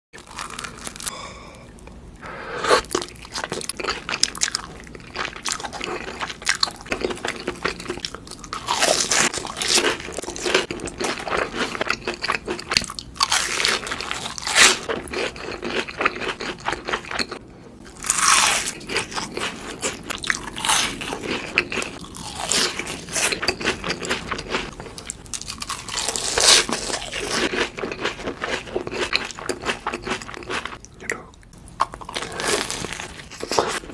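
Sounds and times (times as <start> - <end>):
crunchy bites and chewing: 0.2 - 1.5, 2.8 - 30.8, 31.8 - 33.9.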